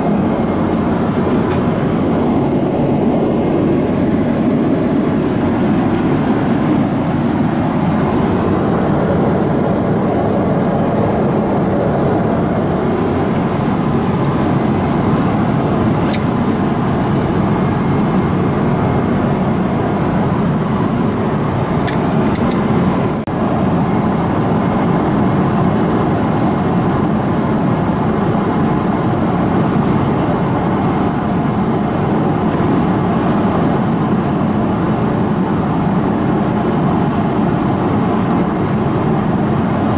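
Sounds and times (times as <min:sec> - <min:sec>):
airplane cabin airflow and engine: 0:00.0 - 0:39.9.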